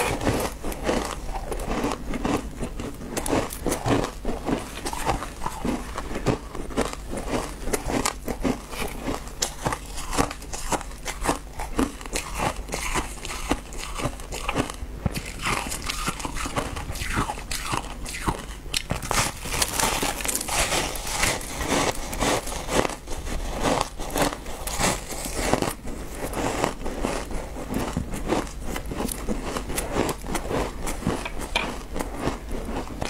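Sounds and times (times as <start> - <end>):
person crunching shaved ice: 0.0 - 33.0.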